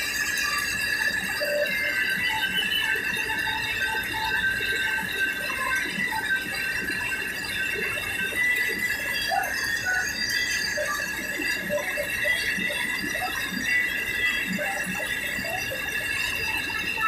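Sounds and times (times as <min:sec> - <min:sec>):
mill high-pitched whine: 0:00.0 - 0:17.0.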